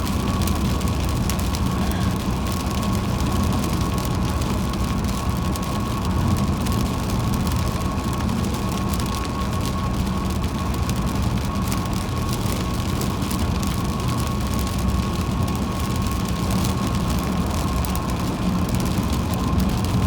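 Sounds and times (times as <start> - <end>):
road and tyre noise: 0.0 - 20.0.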